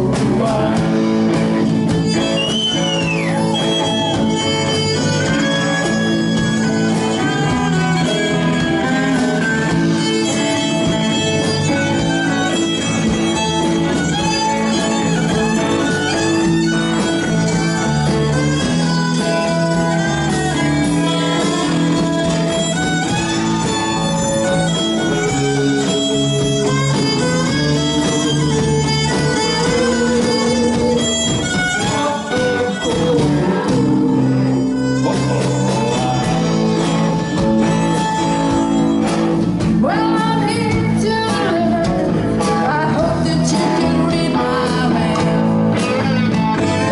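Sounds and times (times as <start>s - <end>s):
drums: 0.0s - 46.9s
electric guitars: 0.0s - 46.9s
bowed violin melody: 1.4s - 41.2s.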